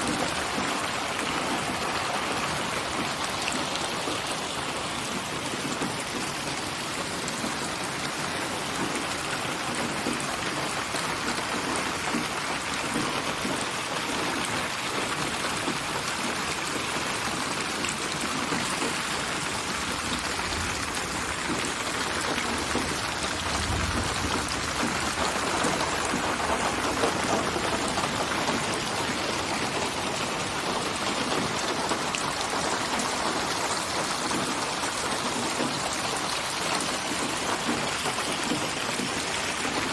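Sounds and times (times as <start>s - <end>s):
rain falling on surfaces: 0.0s - 39.9s.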